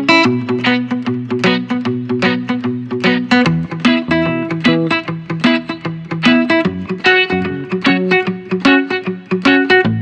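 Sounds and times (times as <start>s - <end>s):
plucked guitar run: 0.0s - 10.0s.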